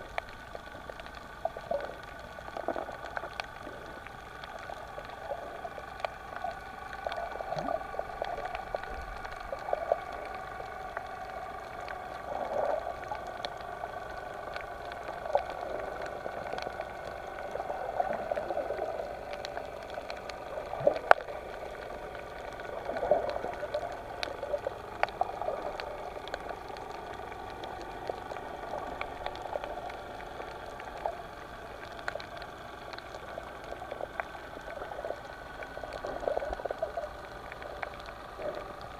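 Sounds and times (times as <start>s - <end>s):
faint hum: 0.0s - 38.9s
sharp clicks and crackles: 0.0s - 38.9s
underwater bubbling and gurgling: 0.0s - 38.9s.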